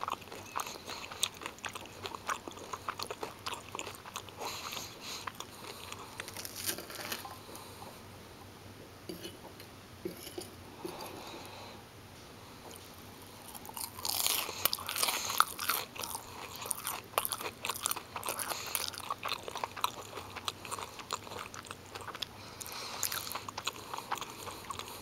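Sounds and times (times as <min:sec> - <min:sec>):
crunching and chewing: 0:00.0 - 0:07.9, 0:12.6 - 0:25.0.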